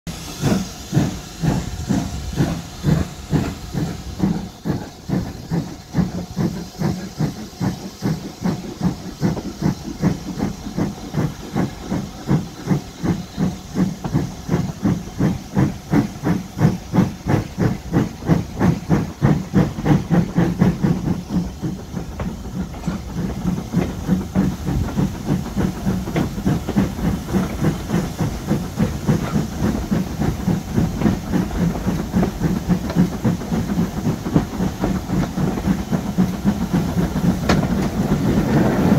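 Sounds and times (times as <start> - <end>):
steam hissing: 0.1 - 38.9
steam locomotive chuffing: 0.1 - 38.9.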